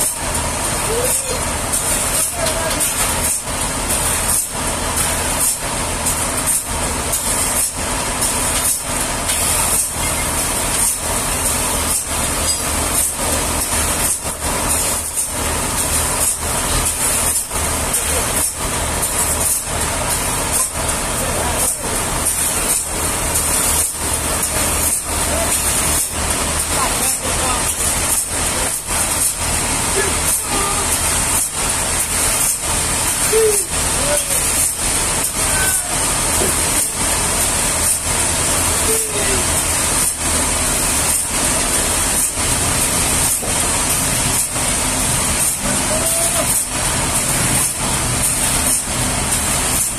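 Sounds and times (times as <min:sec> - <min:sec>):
sawmill engine drone: 0:00.0 - 0:49.9.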